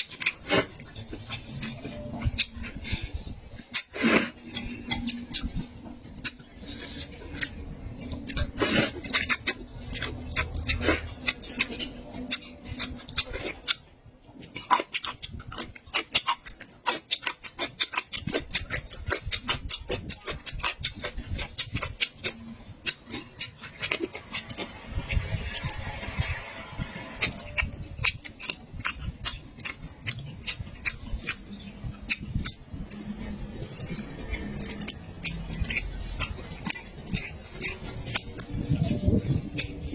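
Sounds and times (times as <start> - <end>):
chewing meat with mouth sounds: 0.0 - 39.9.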